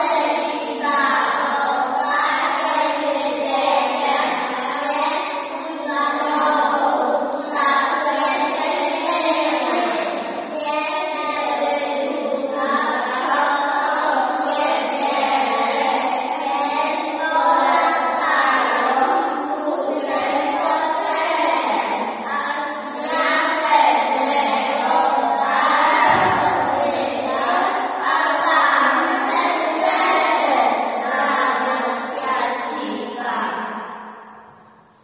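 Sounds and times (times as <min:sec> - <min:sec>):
children singing: 0:00.0 - 0:34.6.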